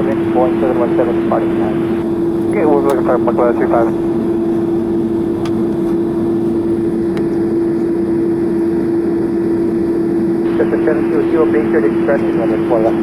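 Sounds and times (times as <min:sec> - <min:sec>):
jet engines idling in cabin: 0:00.0 - 0:13.0.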